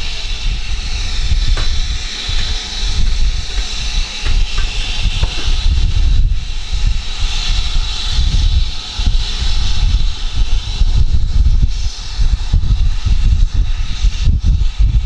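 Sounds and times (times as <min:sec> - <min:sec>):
steam hissing: 0:00.0 - 0:15.0
wind buffeting microphone: 0:00.0 - 0:15.0.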